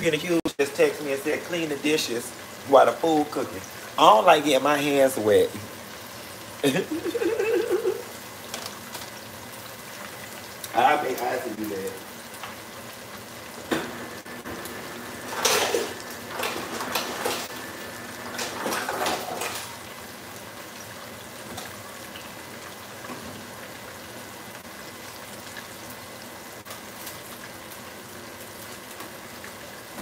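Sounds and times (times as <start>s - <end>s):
meat sizzling in oil: 0.2s - 30.0s.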